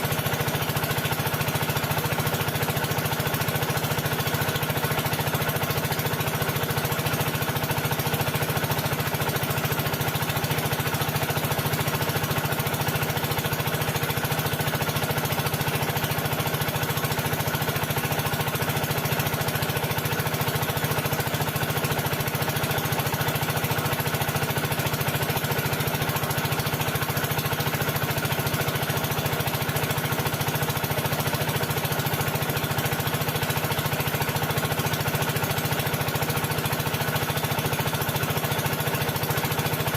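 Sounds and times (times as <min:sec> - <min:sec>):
engine running with fast beat: 0:00.0 - 0:39.9.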